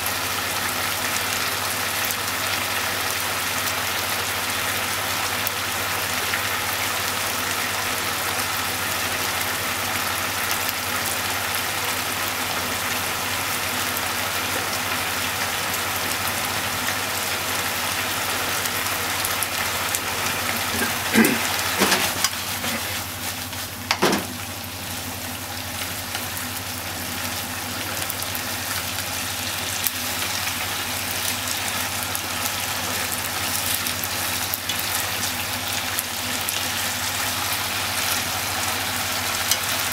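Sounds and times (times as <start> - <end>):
food sizzling in frying pan: 0.0 - 39.9.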